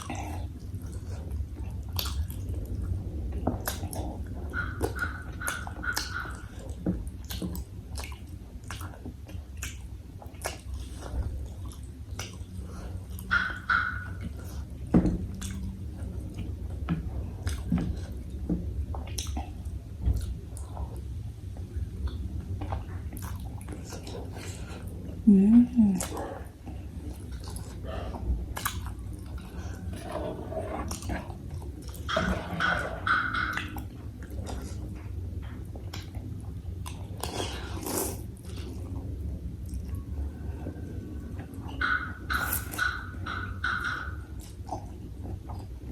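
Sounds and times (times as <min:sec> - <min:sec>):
person chewing soup: 0:00.0 - 0:25.2, 0:26.0 - 0:45.9
steady low hum: 0:00.0 - 0:45.9.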